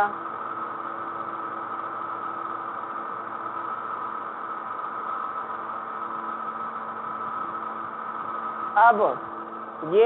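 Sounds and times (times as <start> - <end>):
background hum and hiss: 0.0 - 10.0.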